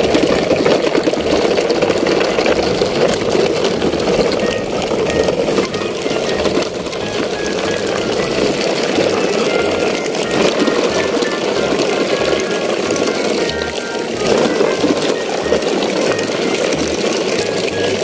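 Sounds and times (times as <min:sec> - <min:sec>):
faint short musical notes: 0:00.0 - 0:18.0
toy truck wheels rattling on asphalt: 0:00.0 - 0:18.0.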